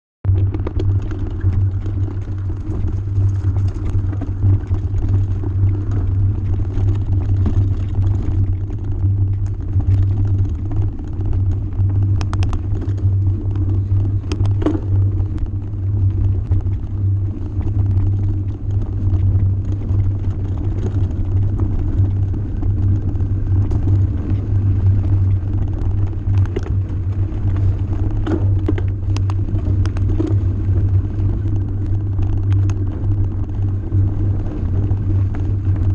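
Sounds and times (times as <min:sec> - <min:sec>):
bike riding on gravel track: 0:00.3 - 0:35.9
stones clicking under wheels: 0:00.3 - 0:35.9.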